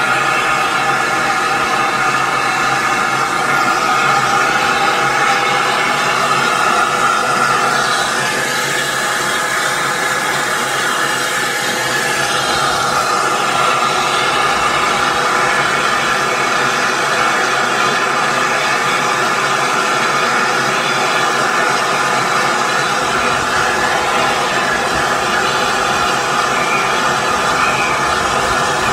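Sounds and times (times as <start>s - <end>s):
steam locomotive hissing steam: 0.0s - 28.9s.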